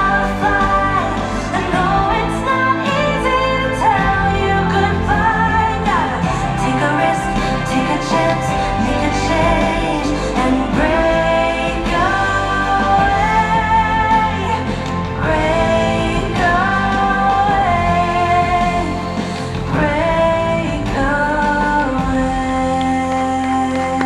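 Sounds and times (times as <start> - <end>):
instrumental backing music: 0.0 - 24.0
person singing long sliding notes: 0.0 - 24.0.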